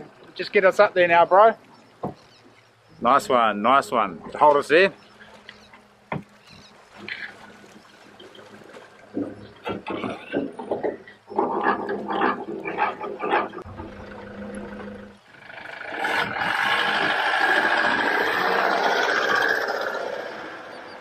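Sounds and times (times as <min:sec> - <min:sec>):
vehicle hauling boat trailer: 0:00.0 - 0:21.0.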